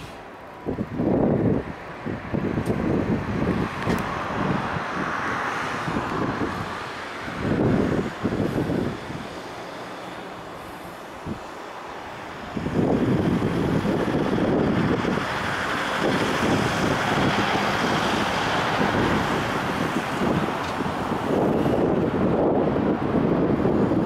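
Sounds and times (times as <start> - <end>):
outdoor background rumble: 0.0 - 24.0
wind buffeting microphone: 0.0 - 24.0.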